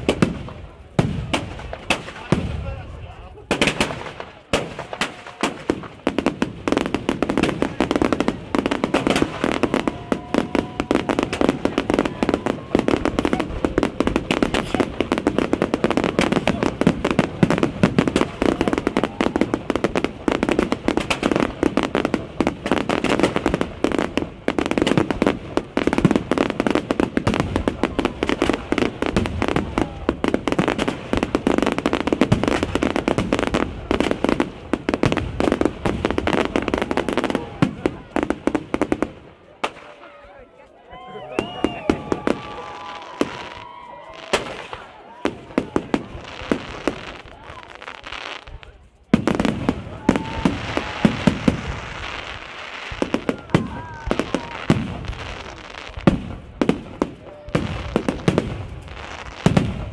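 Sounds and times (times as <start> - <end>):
fireworks bursting: 0.0 - 40.2, 41.0 - 59.9.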